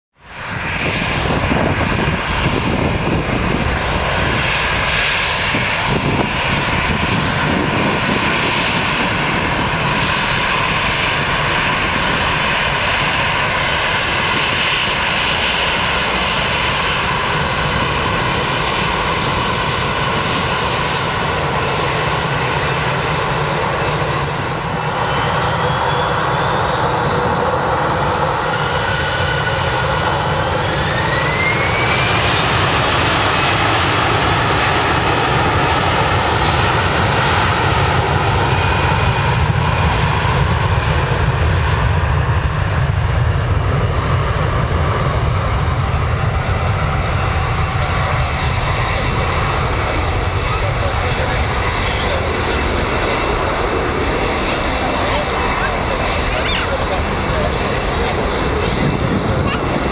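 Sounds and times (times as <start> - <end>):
jet engines running steadily: 0.2 - 59.9
rising jet engine whine: 0.2 - 59.9.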